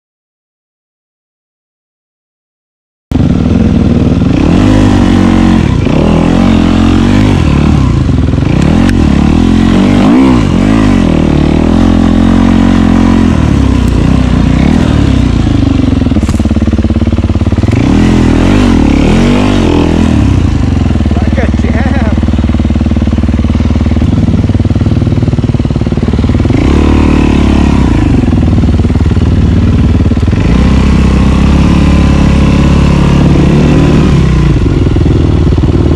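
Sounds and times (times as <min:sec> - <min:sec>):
dirt bike engine revving: 0:03.2 - 0:35.9.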